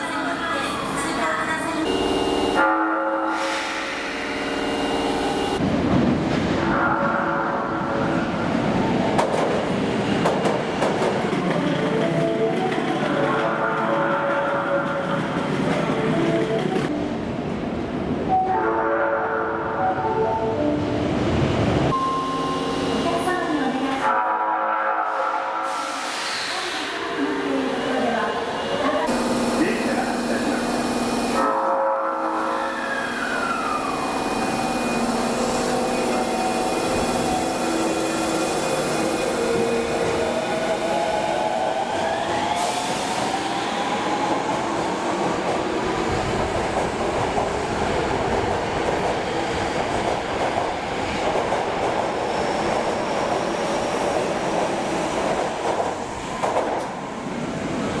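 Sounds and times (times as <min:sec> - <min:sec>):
subway train motors whining: 0:00.0 - 0:58.0.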